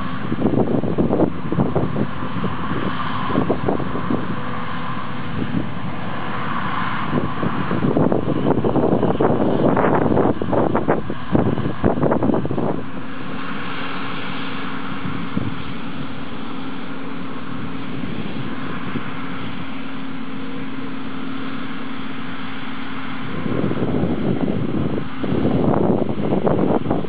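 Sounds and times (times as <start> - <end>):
combine harvester humming: 0.0 - 27.0
wind buffeting microphone: 0.0 - 27.0.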